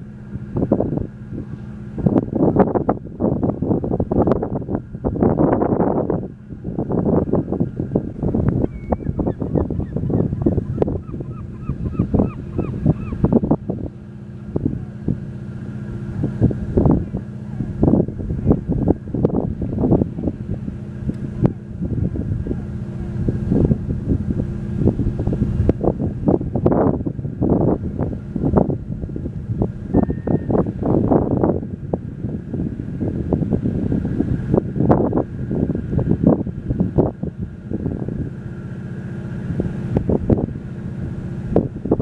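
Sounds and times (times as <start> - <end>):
ferry engine drone: 0.0 - 42.0
wind buffeting microphone: 0.0 - 42.0.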